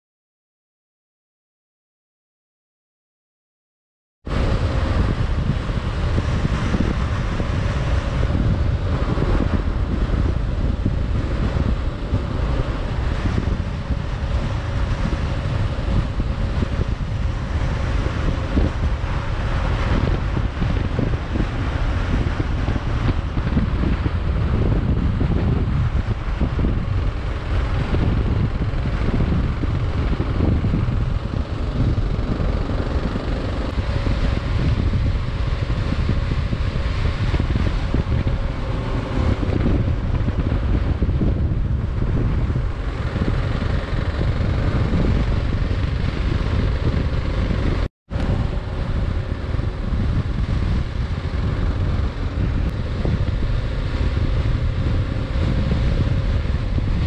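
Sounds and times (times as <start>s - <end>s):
wind buffeting microphone: 4.2s - 57.0s
motorcycle engine running: 4.3s - 57.0s.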